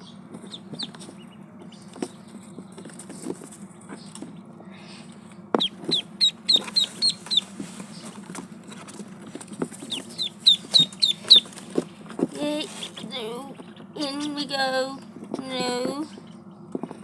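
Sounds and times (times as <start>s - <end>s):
ducklings peeping: 0.0s - 17.0s
steady low hum: 0.0s - 17.0s.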